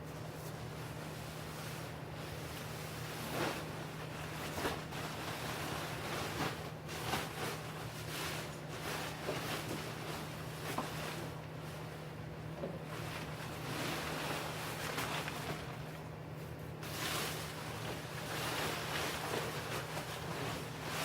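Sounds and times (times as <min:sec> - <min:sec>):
rustling handling noises: 0:00.0 - 0:21.0
steady low hum: 0:00.0 - 0:21.0.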